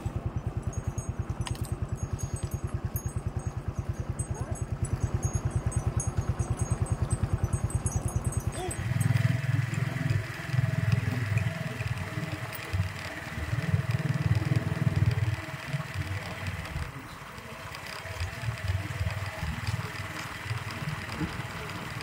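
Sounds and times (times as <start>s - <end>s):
small motorbike engine running: 0.0s - 22.0s.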